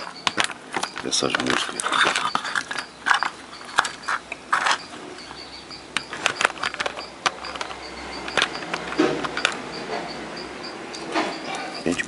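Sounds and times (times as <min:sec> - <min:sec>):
clicks and knocks of handling: 0:00.0 - 0:10.2
faint high chirp: 0:00.0 - 0:12.0.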